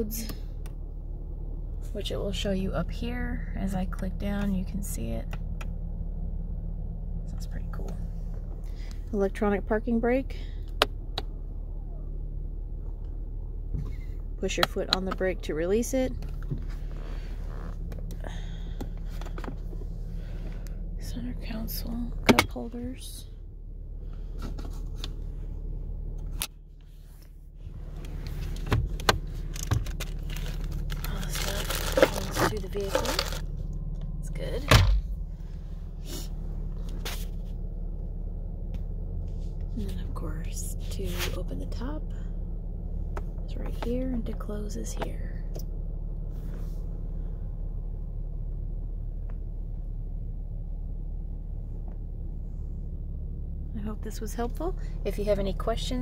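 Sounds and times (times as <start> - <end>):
low hum in car cabin: 0.0 - 56.0.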